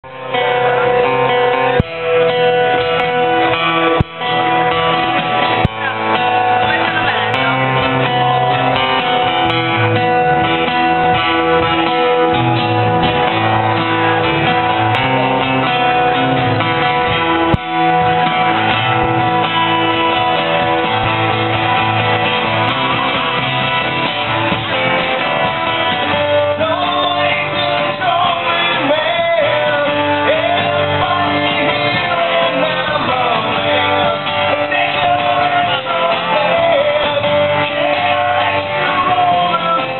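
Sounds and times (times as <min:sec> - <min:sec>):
acoustic guitars strumming: 0:00.0 - 0:39.9.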